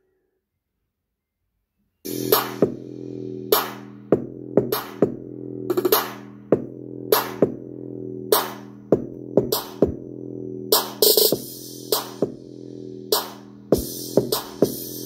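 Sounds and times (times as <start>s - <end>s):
electronic dance music: 2.1s - 15.0s.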